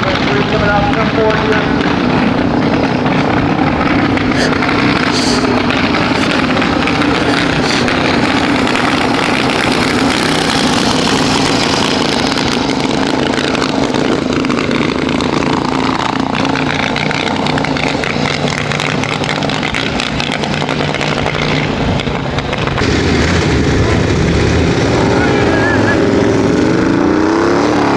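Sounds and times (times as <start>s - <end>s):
motorcycle engines running: 0.0s - 27.9s.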